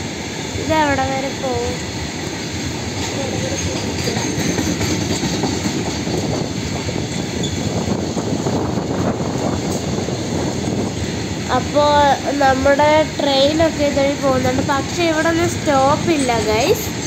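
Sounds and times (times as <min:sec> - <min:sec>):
freight train rumbling past: 0:00.0 - 0:17.0
wheels clattering over rails: 0:02.6 - 0:17.0.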